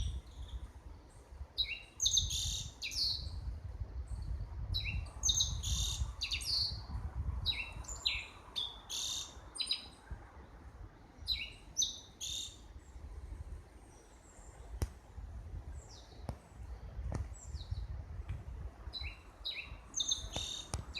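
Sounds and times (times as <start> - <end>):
small songbirds chirping: 0.0 - 20.9.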